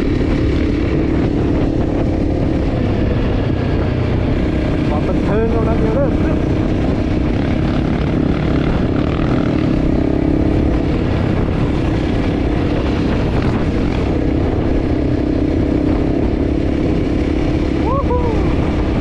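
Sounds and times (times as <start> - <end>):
motorcycle engine running: 0.0 - 19.0
wind noise: 0.0 - 19.0.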